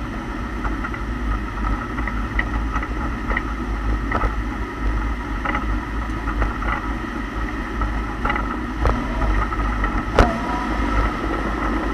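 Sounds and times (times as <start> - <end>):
low car driving rumble: 0.0 - 11.9.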